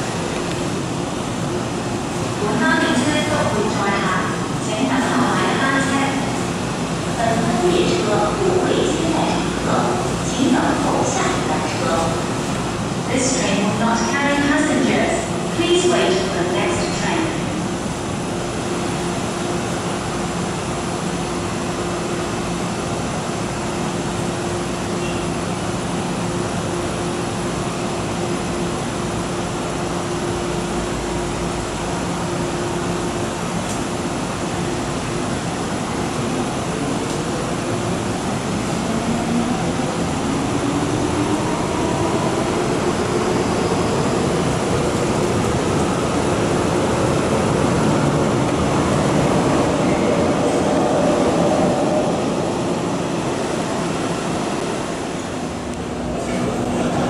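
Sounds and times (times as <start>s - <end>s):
train approaching through tunnel: 0.0s - 57.0s.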